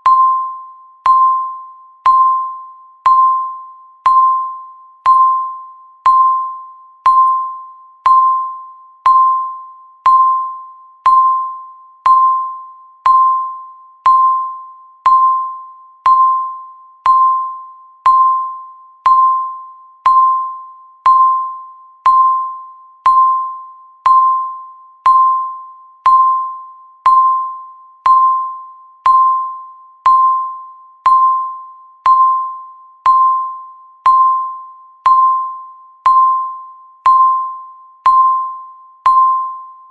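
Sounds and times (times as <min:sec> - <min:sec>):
bell-like timer ping: 0:00.0 - 0:39.9.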